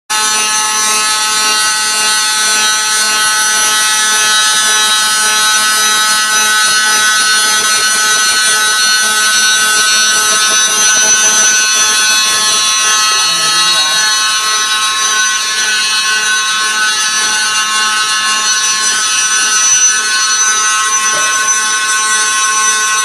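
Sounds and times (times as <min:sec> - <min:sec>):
grinding wheel high-pitched whine: 0:00.1 - 0:23.0.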